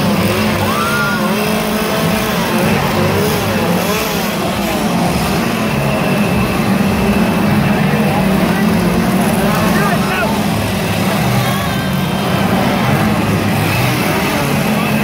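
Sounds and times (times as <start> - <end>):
chainsaw engine running: 0.0 - 15.0
crowd voices and shouts: 0.0 - 15.0.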